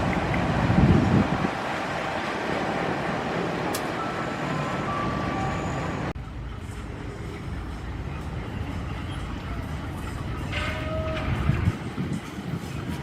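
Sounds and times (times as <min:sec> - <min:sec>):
heavy vehicle rumble with hiss: 0:00.0 - 0:13.0.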